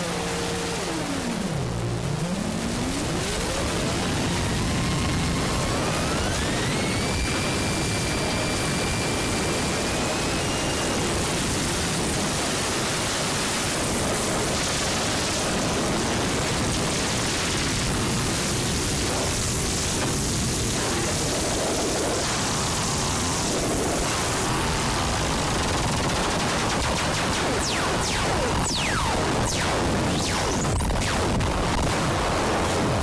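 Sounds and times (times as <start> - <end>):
harsh noise hiss and static: 0.0 - 33.0.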